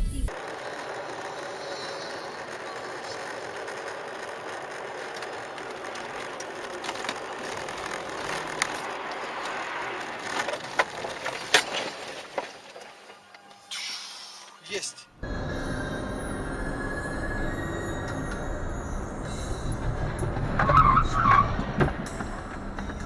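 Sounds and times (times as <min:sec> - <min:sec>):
moving car road noise: 0:00.0 - 0:14.6, 0:15.2 - 0:23.0.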